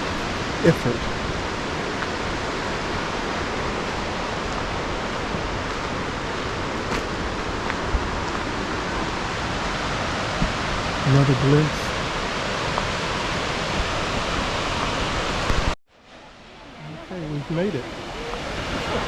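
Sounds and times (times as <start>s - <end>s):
waterfall roar: 0.0s - 19.0s.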